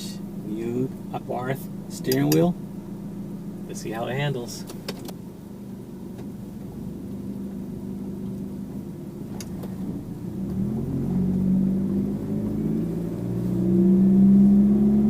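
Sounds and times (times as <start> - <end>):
car engine running and revving: 0.0 - 15.0.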